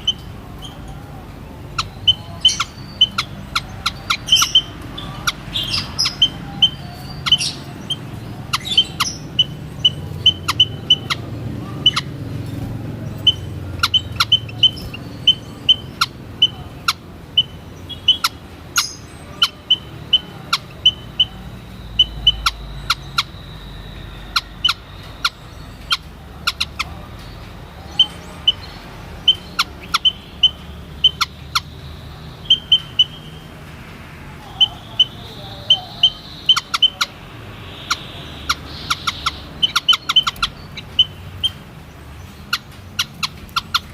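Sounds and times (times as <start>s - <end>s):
bird high peeps: 0.0s - 33.6s, 34.4s - 43.9s.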